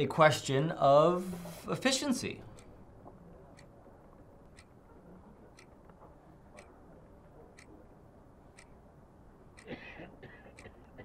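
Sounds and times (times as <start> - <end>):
wall clock ticking: 0.0 - 9.8.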